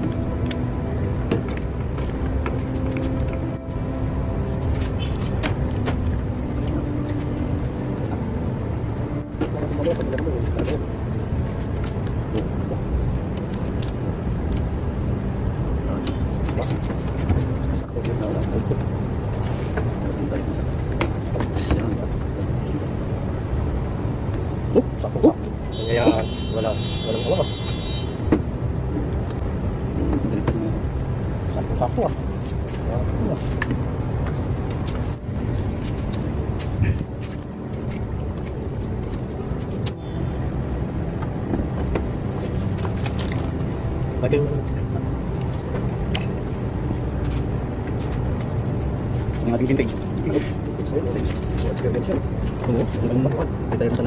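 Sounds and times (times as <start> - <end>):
steady low rumble: 0.0 - 26.5, 28.1 - 54.0.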